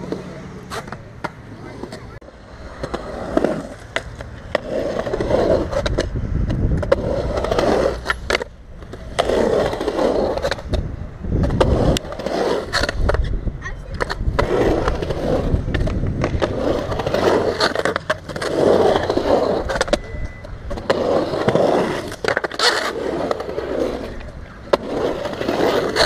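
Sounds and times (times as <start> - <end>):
skateboard clacks: 0.0 - 26.0
skateboard wheels rolling on concrete: 0.0 - 26.0.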